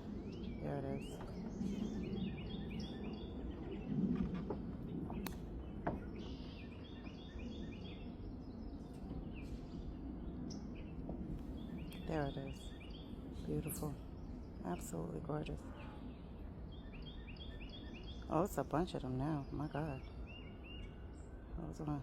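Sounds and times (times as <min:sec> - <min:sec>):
birds chirping: 0:00.0 - 0:22.0
low background rumble: 0:00.0 - 0:22.0.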